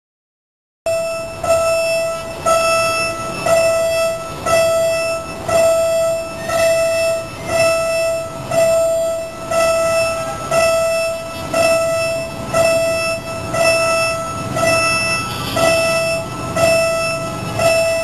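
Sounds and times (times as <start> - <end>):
level crossing warning bell: 0.9 - 18.0.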